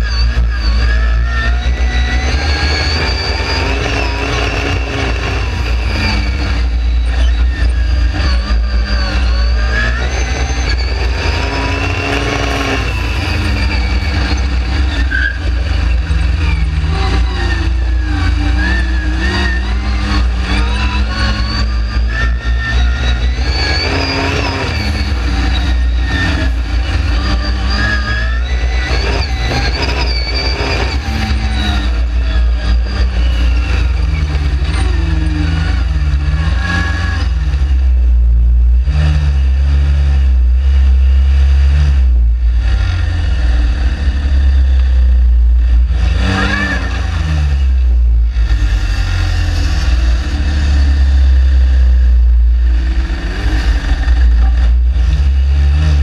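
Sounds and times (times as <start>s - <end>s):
dune buggy engine revving: 0.0s - 56.0s.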